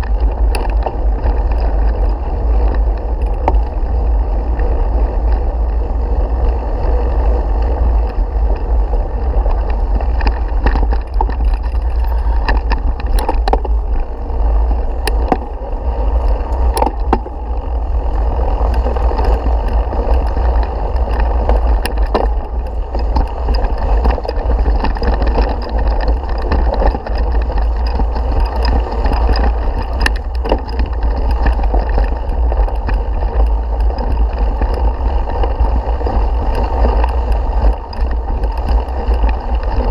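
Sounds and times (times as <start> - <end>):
bike clicks and rattles: 0.0 - 39.9
wind rumble on microphone: 0.0 - 39.9.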